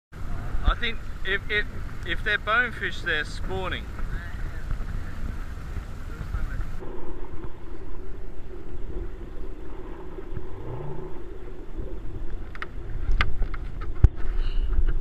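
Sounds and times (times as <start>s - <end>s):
steady low rumble: 0.2s - 15.0s
water lapping and sloshing: 0.2s - 15.0s.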